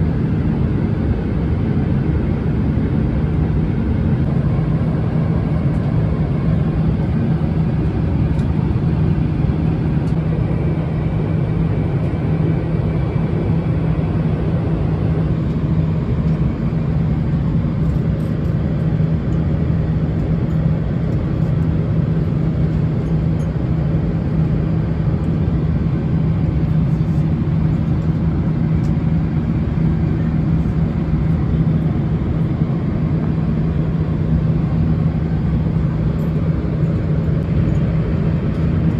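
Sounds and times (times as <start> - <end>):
airliner cabin drone: 0.0 - 38.9.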